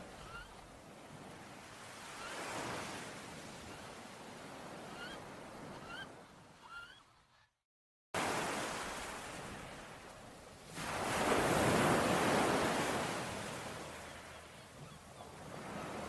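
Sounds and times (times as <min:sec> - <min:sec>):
ocean waves breaking: 0:00.0 - 0:06.6, 0:08.2 - 0:16.0.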